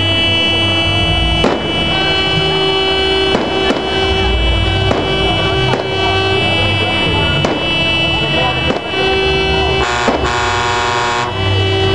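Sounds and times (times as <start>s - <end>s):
fireworks bangs: 0.0s - 11.9s
low bass rumble: 0.0s - 11.9s.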